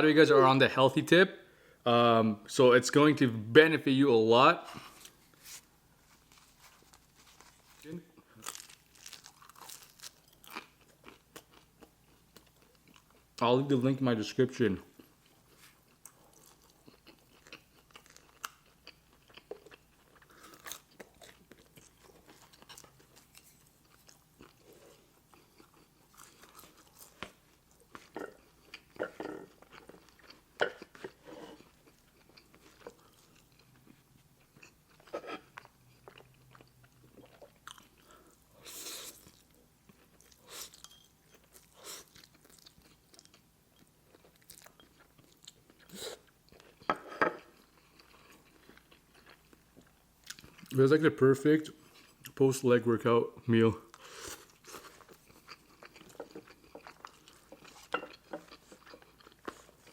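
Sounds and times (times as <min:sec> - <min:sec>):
person chewing food: 0:04.8 - 0:13.4, 0:14.9 - 0:50.8, 0:53.9 - 0:59.9.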